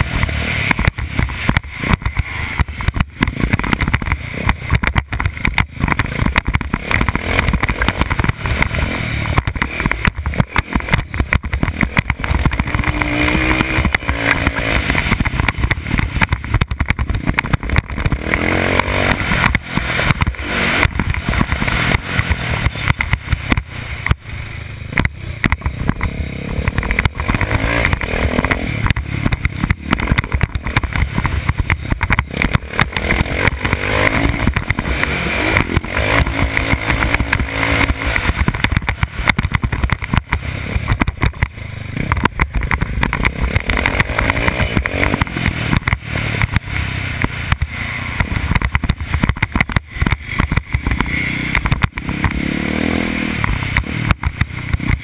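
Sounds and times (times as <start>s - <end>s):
knocks from bumps: 0.0s - 24.2s, 24.9s - 55.0s
dirt bike engine revving: 0.0s - 55.0s.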